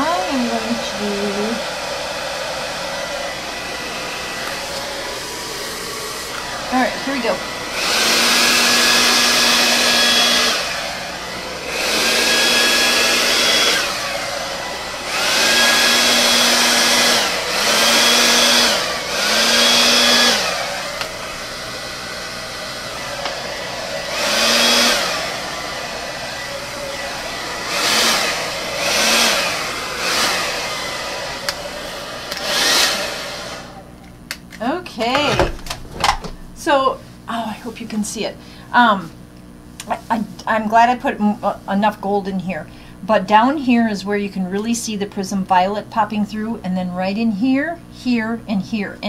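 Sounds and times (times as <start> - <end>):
hair dryer blowing in bursts: 0.0 - 34.0, 34.8 - 39.2, 39.8 - 49.0.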